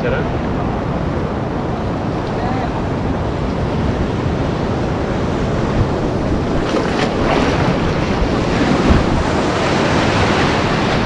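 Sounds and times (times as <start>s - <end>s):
sea waves breaking: 0.0s - 11.0s
wind noise on microphone: 0.0s - 11.0s.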